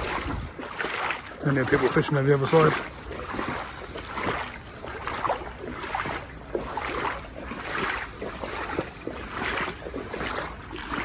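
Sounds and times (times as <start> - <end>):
wading through water: 0.0 - 11.0.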